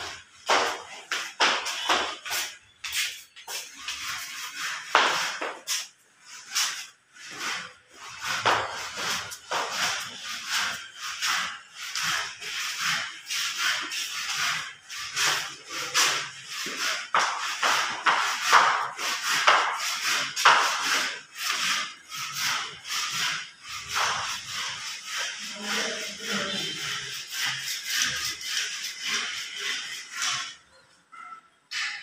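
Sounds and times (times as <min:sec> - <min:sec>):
rasping rubbing strokes: 0:00.0 - 0:31.3.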